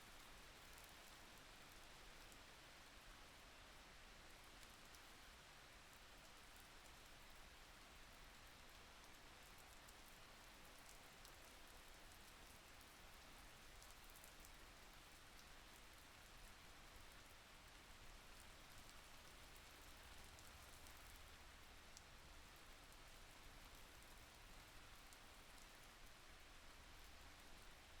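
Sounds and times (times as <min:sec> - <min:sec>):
soft raindrop ticks: 0:00.1 - 0:03.4, 0:04.2 - 0:28.0.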